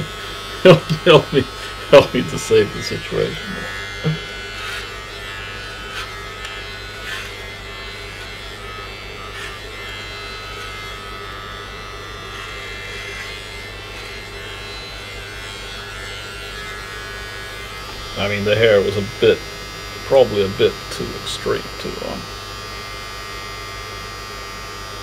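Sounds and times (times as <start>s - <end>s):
electric trimmer buzzing: 0.0s - 25.0s.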